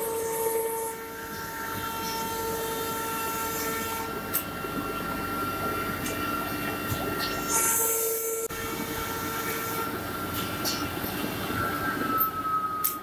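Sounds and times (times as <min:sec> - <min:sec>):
high spindle whine: 0:00.0 - 0:13.0.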